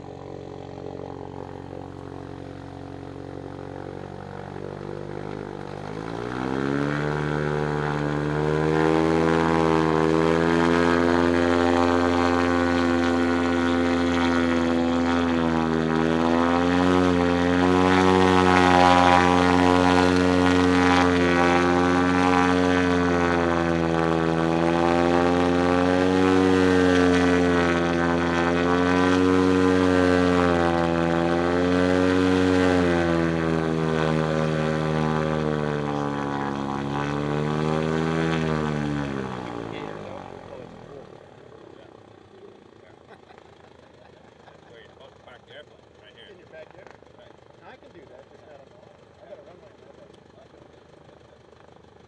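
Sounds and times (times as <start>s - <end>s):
aircraft propeller engine: 0.0s - 52.0s.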